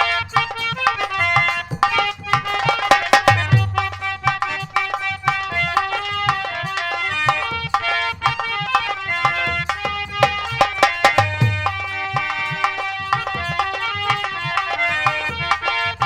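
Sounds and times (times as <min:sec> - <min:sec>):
hand drums playing: 0:00.0 - 0:16.0
held melody notes: 0:00.0 - 0:16.0.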